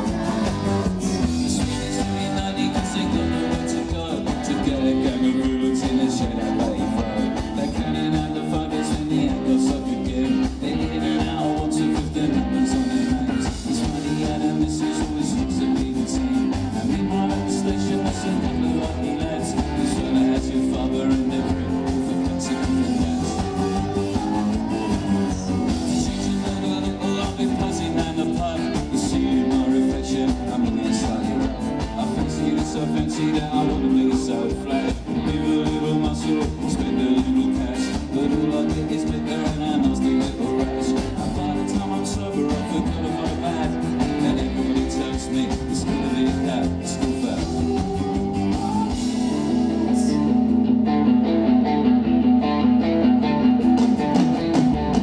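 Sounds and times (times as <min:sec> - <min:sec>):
live rock band: 0:00.0 - 0:55.0.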